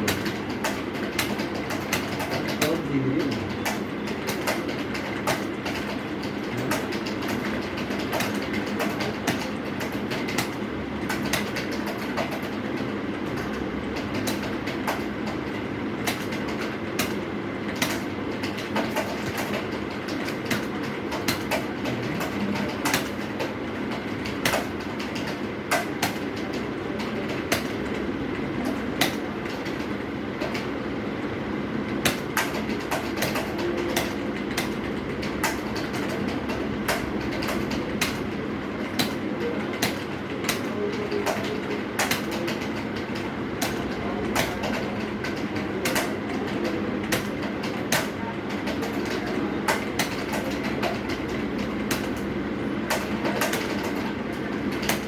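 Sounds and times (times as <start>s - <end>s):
keyboard keys clicking: 0.0s - 28.0s, 32.0s - 55.0s.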